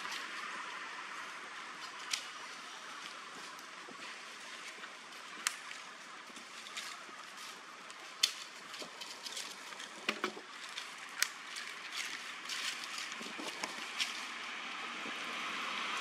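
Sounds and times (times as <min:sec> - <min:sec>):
dry leaves crackling: 0:00.0 - 0:16.0
steady outdoor hiss: 0:00.0 - 0:16.0.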